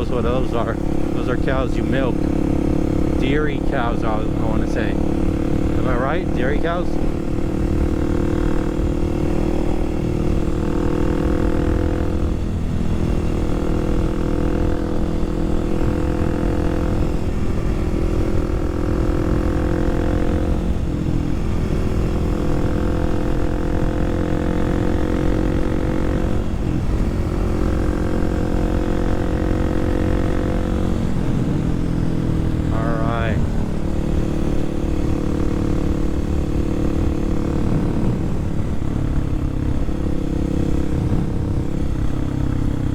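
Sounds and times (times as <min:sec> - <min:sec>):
motorcycle engine cruising: 0:00.0 - 0:42.9
wind and road rumble: 0:00.0 - 0:42.9.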